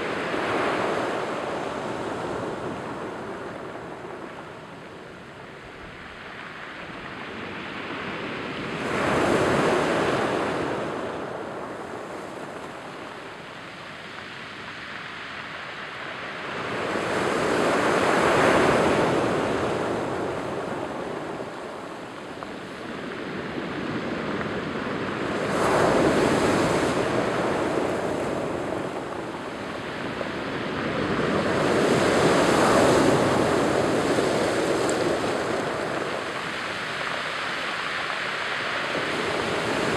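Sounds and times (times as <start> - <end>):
waves washing over stones: 0.0 - 4.4, 6.5 - 39.9.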